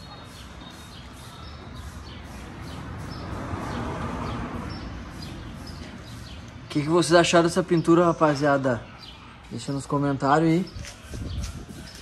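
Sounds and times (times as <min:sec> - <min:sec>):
outdoor background noise: 0:00.0 - 0:12.0
small birds chirping: 0:00.0 - 0:12.0.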